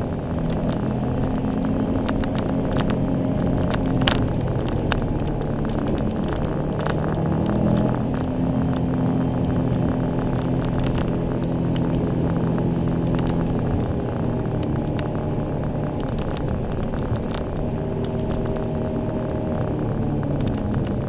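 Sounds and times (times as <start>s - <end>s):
car engine running: 0.0s - 21.0s
tyre and road noise: 0.0s - 21.0s.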